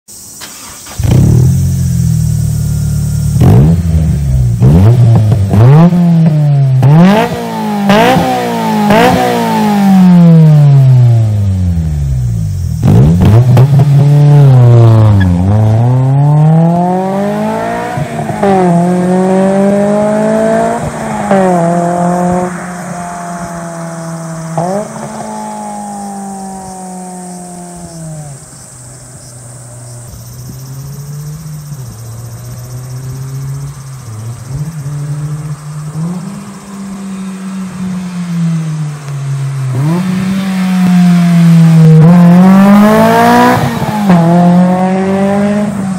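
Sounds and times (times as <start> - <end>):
car engine revving and accelerating: 0.4 - 45.9.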